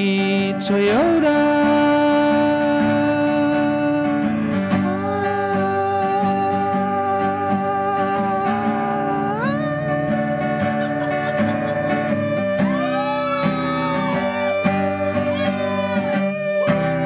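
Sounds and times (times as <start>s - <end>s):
acoustic guitar: 0.0s - 17.0s
man singing into microphone: 0.0s - 17.0s.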